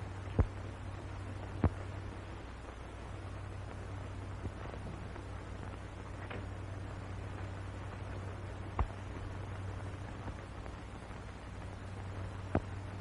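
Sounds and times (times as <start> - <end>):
film soundtrack hiss and hum: 0.0 - 13.0.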